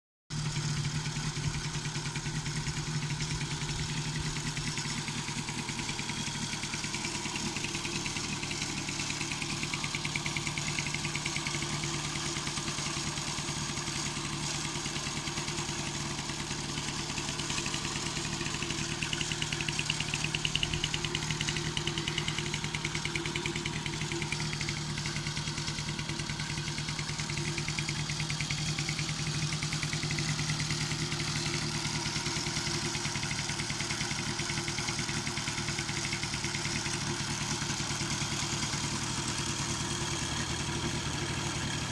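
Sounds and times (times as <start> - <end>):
moped engine idling: 0.3 - 41.9.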